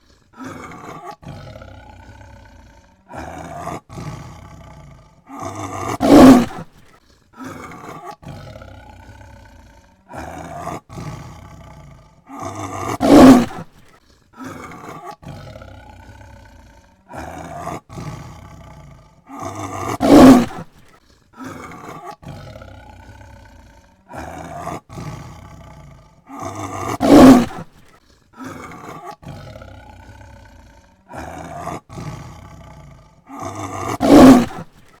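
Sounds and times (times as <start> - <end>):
tiger roaring: 0.0 - 35.0.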